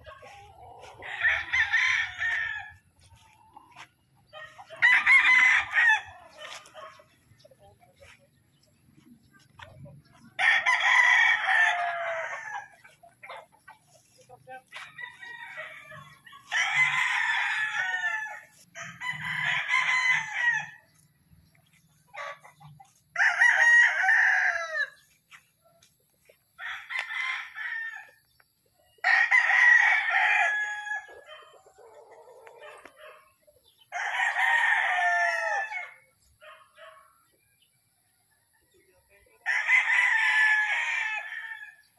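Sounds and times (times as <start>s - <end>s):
roosters crowing: 0.0s - 7.2s, 10.1s - 14.0s, 14.7s - 25.4s, 26.4s - 36.4s, 39.0s - 41.9s.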